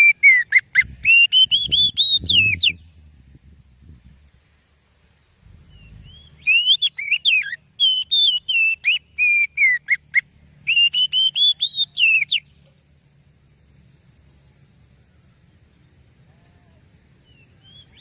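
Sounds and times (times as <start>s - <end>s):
bird singing whistled notes: 0.0s - 3.2s, 5.3s - 15.9s, 17.2s - 18.0s.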